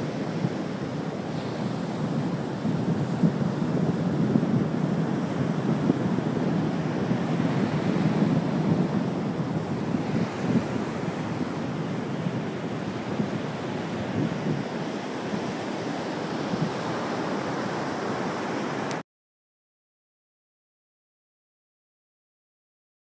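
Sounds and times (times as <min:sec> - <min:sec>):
wind buffeting microphone: 0:00.0 - 0:18.9
wind and water rushing: 0:00.0 - 0:19.0.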